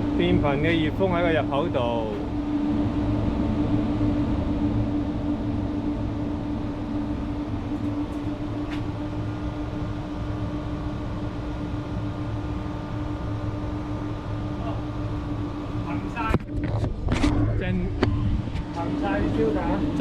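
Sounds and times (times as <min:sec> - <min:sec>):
ventilation fan humming: 0:00.0 - 0:20.0.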